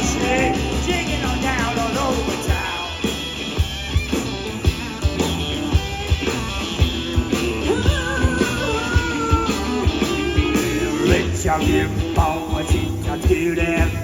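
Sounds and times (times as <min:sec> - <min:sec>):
bass guitar: 0:00.0 - 0:14.0
electric guitar: 0:00.0 - 0:14.0
steady drum beat: 0:00.0 - 0:14.0.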